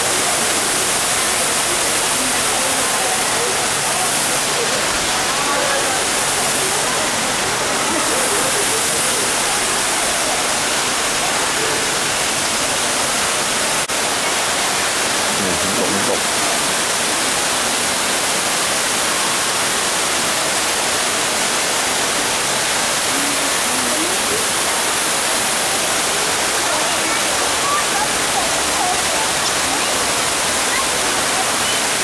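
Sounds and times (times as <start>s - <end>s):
faint voices: 0.0s - 32.0s
waterfall rushing: 0.0s - 32.0s.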